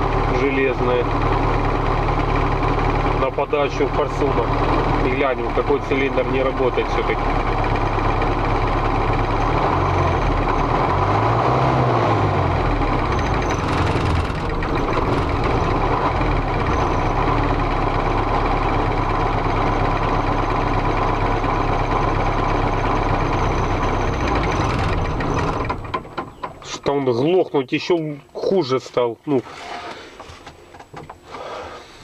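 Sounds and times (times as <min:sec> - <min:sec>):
diesel engine idling and misfiring: 0:00.0 - 0:28.5.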